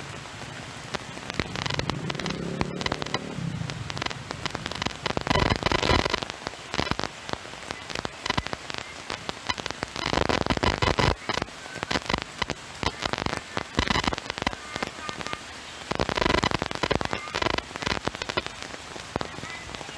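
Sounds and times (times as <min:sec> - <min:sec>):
heavy rain pattering: 0:00.0 - 0:19.9.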